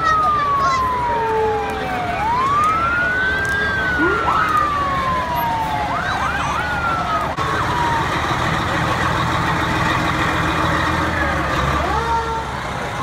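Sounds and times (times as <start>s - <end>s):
fire truck siren wailing: 0.0s - 13.0s
low rumble of trucks: 0.0s - 13.0s.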